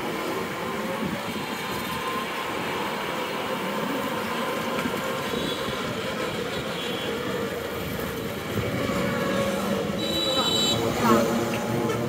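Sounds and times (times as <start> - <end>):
passing auto-rickshaws running: 0.0 - 12.0.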